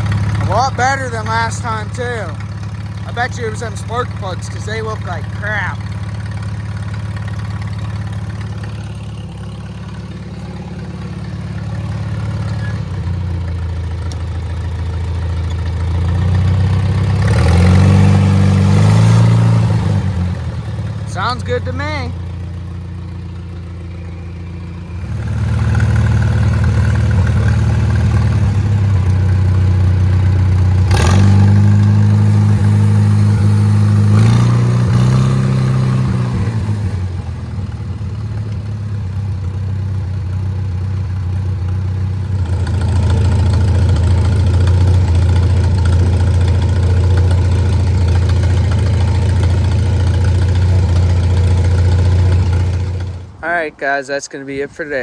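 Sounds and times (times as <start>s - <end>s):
engine knock: 0.0s - 53.3s
tractor engine idling: 0.0s - 55.0s.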